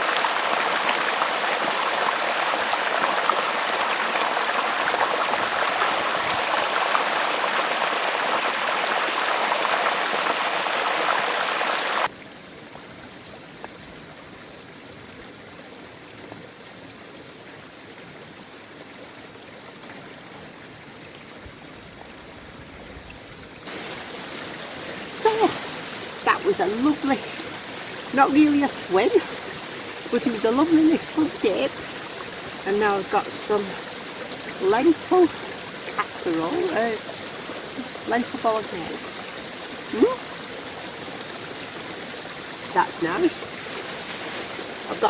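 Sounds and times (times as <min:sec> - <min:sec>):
stream splashing over rocks: 0:00.0 - 0:45.0.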